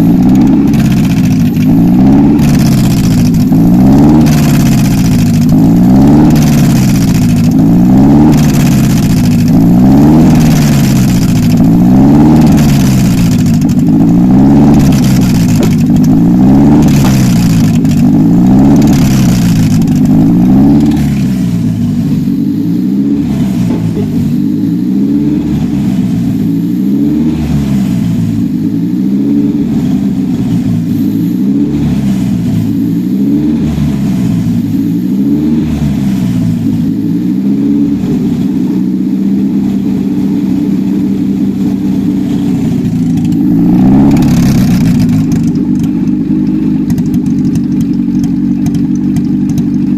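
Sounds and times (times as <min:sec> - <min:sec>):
petrol engine revving: 0:00.0 - 0:49.9.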